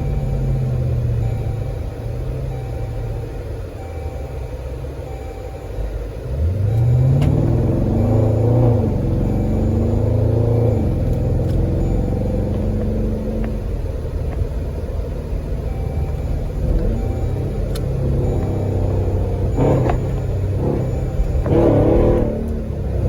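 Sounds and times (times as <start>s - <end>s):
car engine revving: 0.0s - 5.2s, 5.9s - 23.0s.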